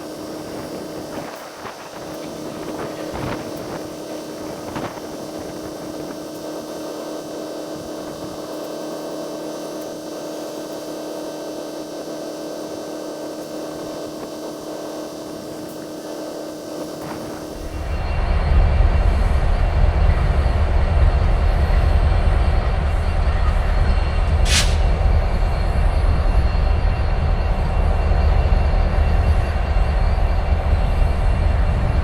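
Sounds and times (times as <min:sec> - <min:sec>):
vehicle idling hum: 0:00.0 - 0:28.0.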